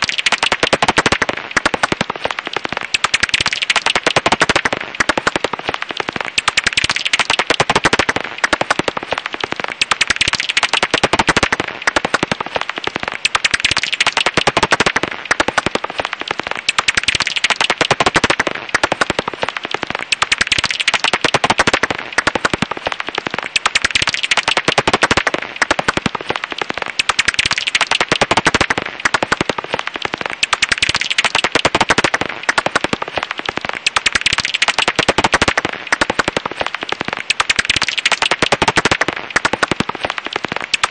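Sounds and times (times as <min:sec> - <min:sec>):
bat calls crackle of clicks: 0:00.0 - 0:40.9.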